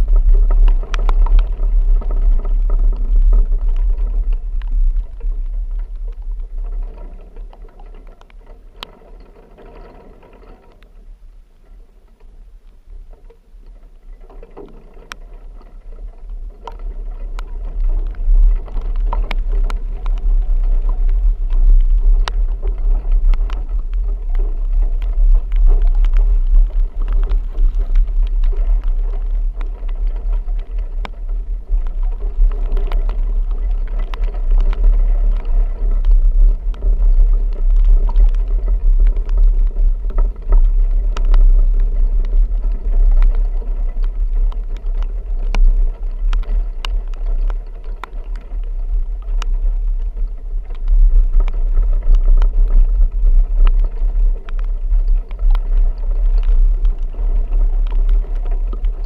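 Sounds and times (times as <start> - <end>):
vehicle driving rumble: 0.0 - 6.6, 16.0 - 59.0.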